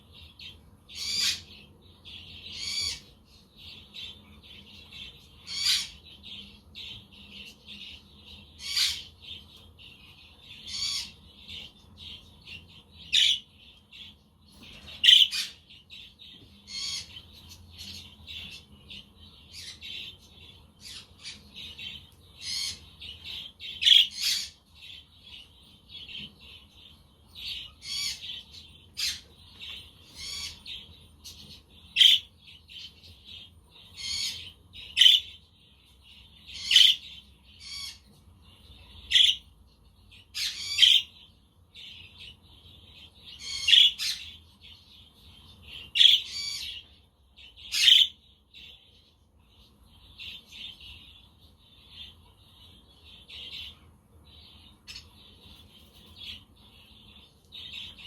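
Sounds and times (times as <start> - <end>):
budgerigars chattering and warbling: 0.0 - 35.4, 36.1 - 48.8.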